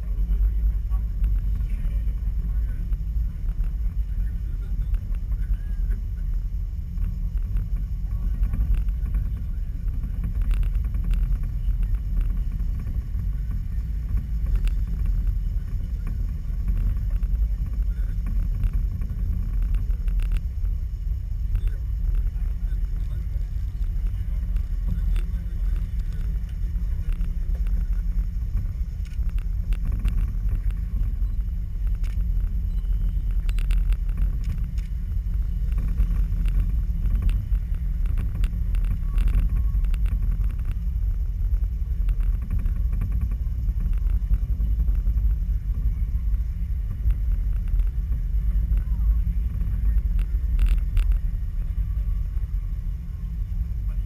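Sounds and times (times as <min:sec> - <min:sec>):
cable car rumbling: 0:00.0 - 0:54.0.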